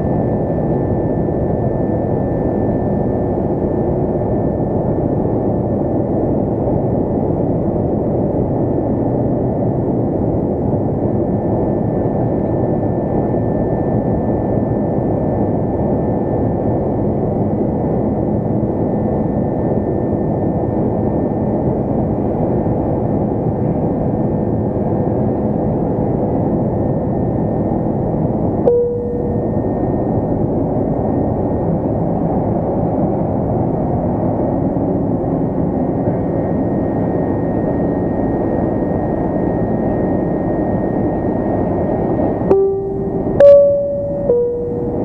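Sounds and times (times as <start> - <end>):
faint steady hum: 0.0 - 45.0
jet engine and airflow roar: 0.0 - 45.0.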